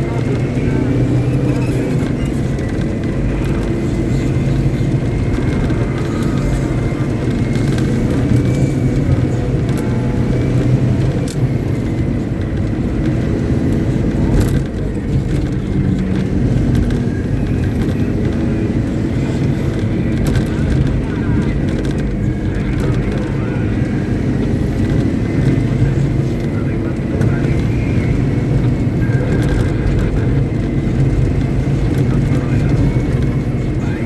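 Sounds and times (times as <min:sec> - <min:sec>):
diesel engine running steadily: 0:00.0 - 0:34.0.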